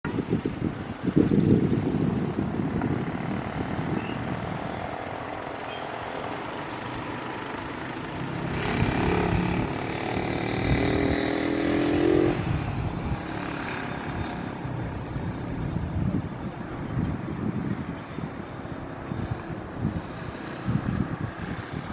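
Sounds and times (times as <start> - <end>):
wind buffeting microphone: 0.0 - 21.9
propeller airplane engine drone: 0.1 - 11.3, 12.3 - 21.9.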